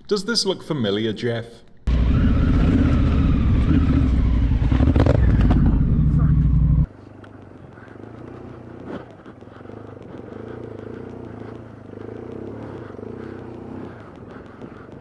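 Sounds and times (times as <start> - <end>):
motorcycle engine running: 1.9 - 15.0.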